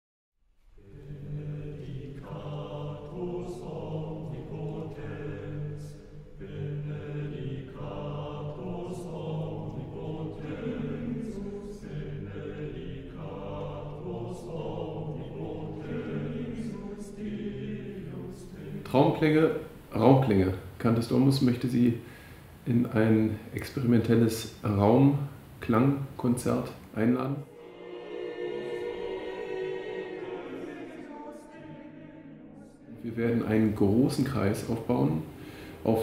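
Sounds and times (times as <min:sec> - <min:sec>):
choir singing sustained chords: 0:00.6 - 0:36.0.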